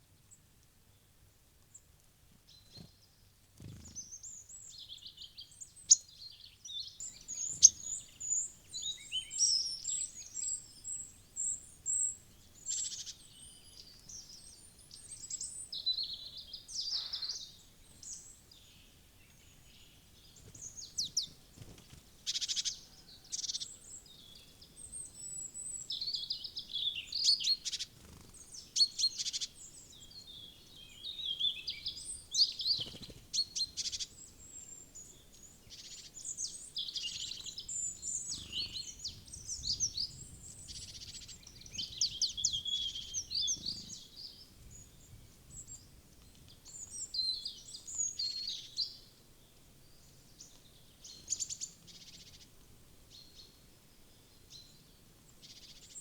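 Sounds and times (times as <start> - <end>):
small birds chirping and trilling: 2.5 - 56.0.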